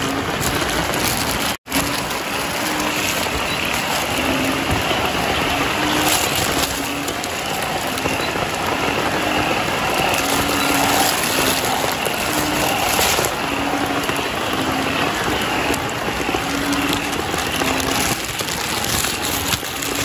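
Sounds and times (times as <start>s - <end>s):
heavy rain: 0.0s - 20.0s
frogs hooting: 1.7s - 20.0s.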